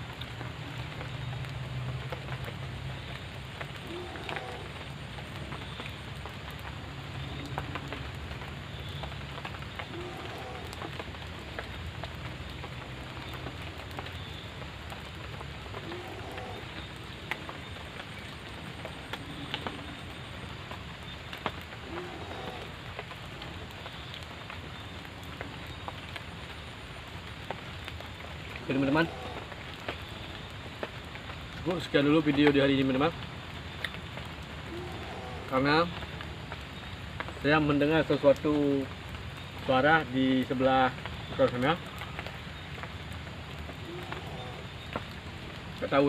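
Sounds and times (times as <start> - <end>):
raindrops tapping: 0.0 - 46.0
steady rain falling: 0.0 - 46.0.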